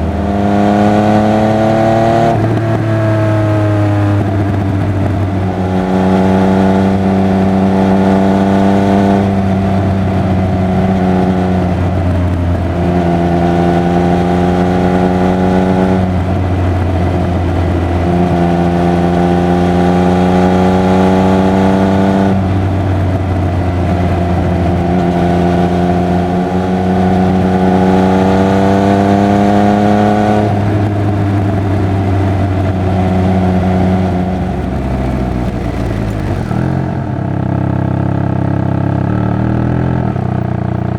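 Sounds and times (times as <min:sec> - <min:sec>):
motorcycle engine pulling under load: 0:00.0 - 0:40.5
wind and road rumble: 0:00.0 - 0:40.9.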